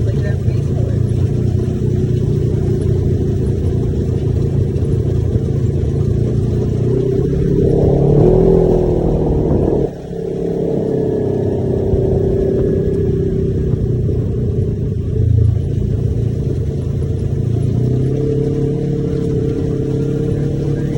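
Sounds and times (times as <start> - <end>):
utility vehicle engine revving: 0.0 - 20.9.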